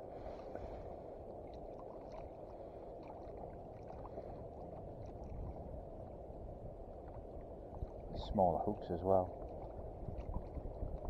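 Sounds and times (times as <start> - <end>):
small water drips and splashes: 0.0 - 11.0
water lapping against hull: 0.0 - 11.0.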